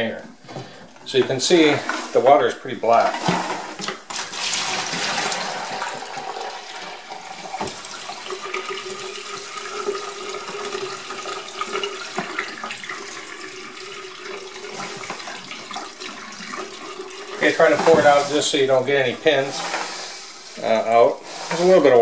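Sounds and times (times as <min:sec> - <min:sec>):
water pouring into metal bowl: 0:04.1 - 0:22.0.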